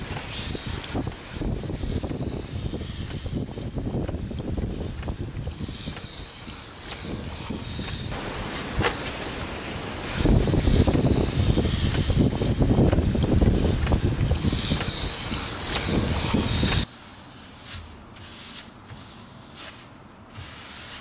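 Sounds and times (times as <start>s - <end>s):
grinding wheel rumbling: 0.0s - 16.8s.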